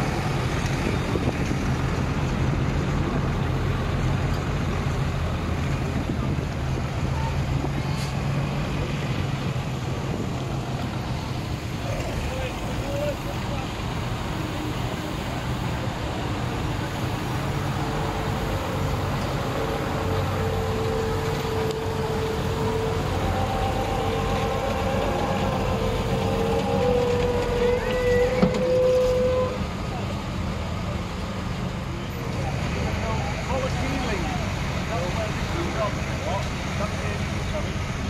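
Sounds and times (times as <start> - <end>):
lorry engine rumbling: 0.0 - 38.0.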